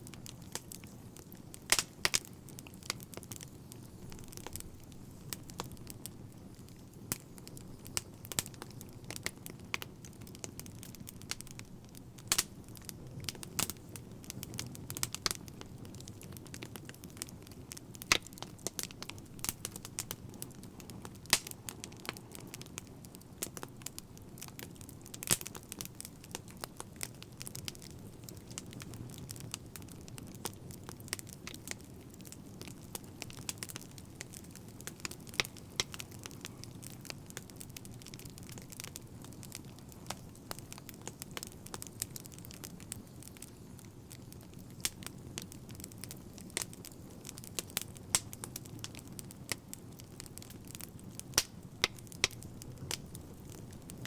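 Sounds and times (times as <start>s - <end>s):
fire crackling and popping: 0.0s - 54.0s
low rumble of burning: 0.0s - 54.0s.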